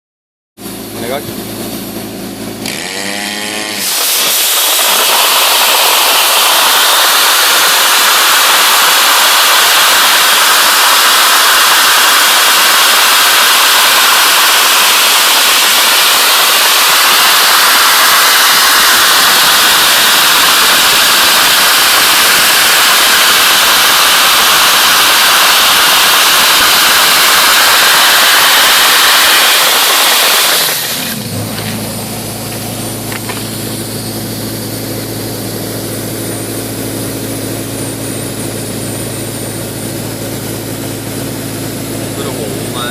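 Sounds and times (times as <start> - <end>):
dry-ice blasting nozzle hissing: 2.6 - 42.9.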